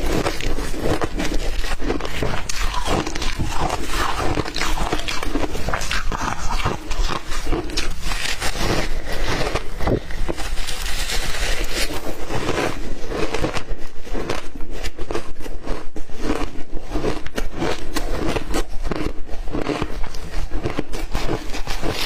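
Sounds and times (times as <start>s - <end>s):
ice being chewed: 0.0s - 22.0s.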